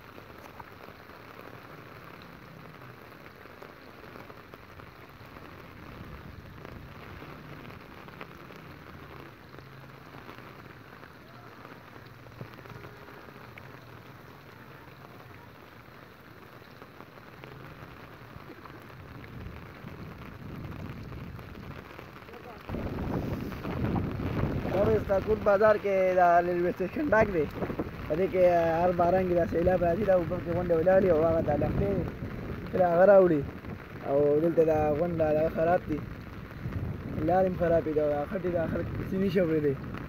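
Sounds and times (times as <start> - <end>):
rain falling on water: 0.0 - 40.0.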